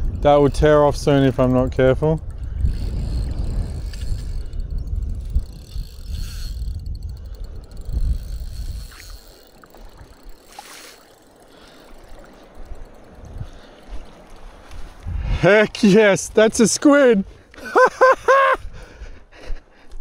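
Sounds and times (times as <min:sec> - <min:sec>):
wind buffeting microphone: 0:00.0 - 0:18.0, 0:18.6 - 0:20.0.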